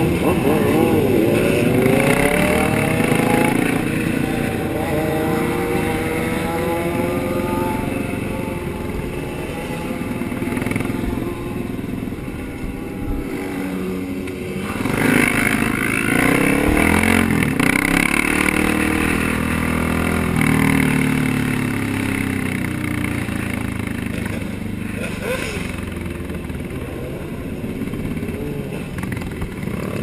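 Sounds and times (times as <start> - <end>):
motorcycle engines revving: 0.0 - 30.0.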